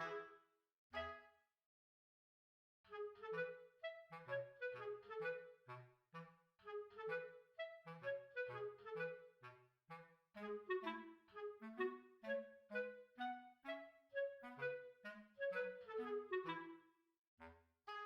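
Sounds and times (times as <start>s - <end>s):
light woodwind tune with bass: 0.0s - 0.4s, 1.0s - 1.4s, 2.9s - 16.9s.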